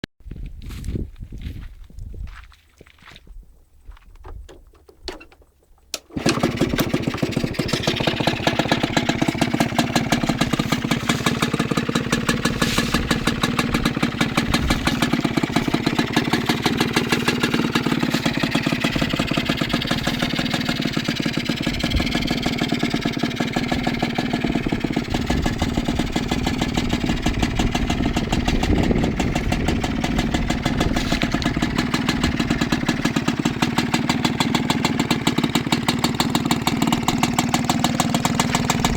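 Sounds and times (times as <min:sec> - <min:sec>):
motorcycle engine idling: 0:05.4 - 0:38.9.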